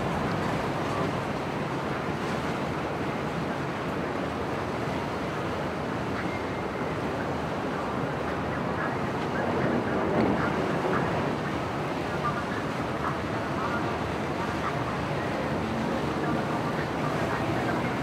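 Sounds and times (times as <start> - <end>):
waves rushing: 0.0 - 18.0
wind: 0.0 - 18.0.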